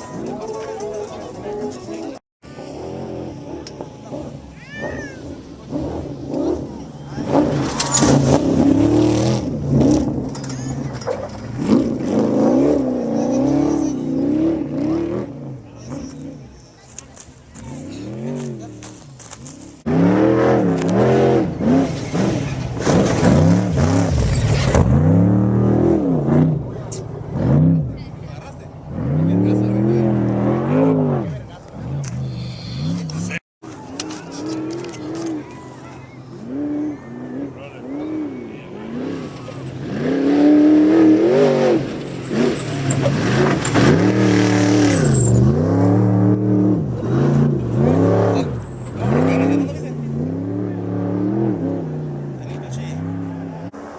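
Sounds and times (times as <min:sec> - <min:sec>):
truck engine revving: 0:00.0 - 0:16.8, 0:17.5 - 0:53.9.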